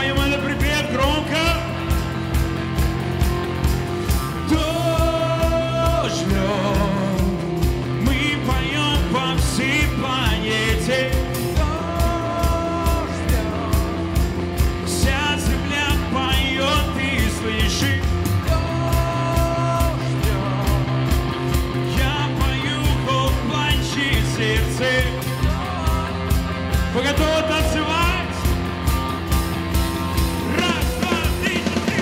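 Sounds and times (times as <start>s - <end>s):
man singing: 0.0s - 1.8s, 4.4s - 28.5s, 30.4s - 32.0s
live rock band playing: 0.0s - 32.0s.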